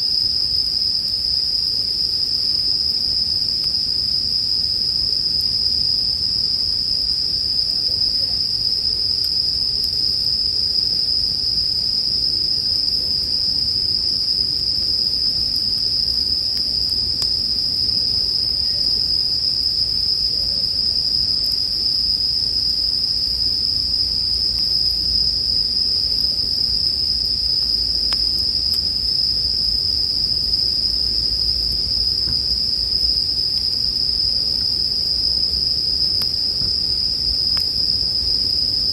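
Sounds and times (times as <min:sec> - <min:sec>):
crickets trilling: 0:00.0 - 0:38.9
faint fire crackles: 0:00.0 - 0:38.9
low campfire rumble: 0:00.0 - 0:38.9.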